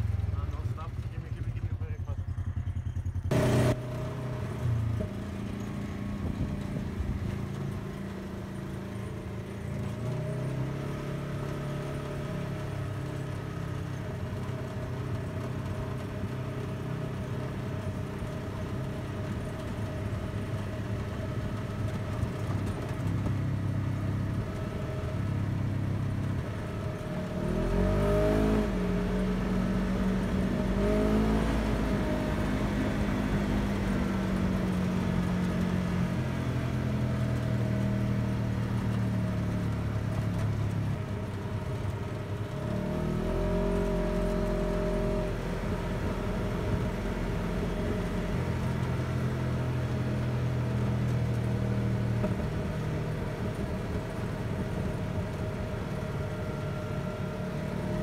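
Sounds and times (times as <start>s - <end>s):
buggy engine running: 0.0s - 58.0s.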